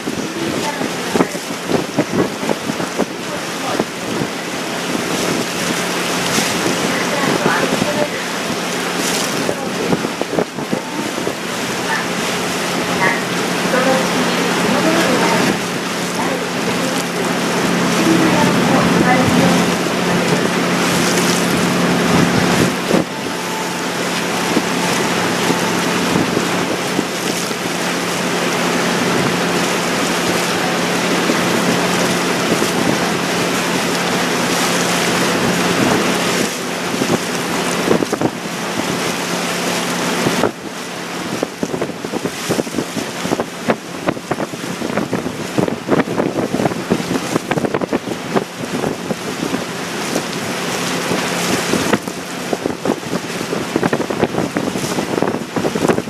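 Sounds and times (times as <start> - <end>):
boat engine hum: 0.0 - 56.0
water rushing along hull: 0.0 - 56.0
wind on microphone: 0.0 - 56.0.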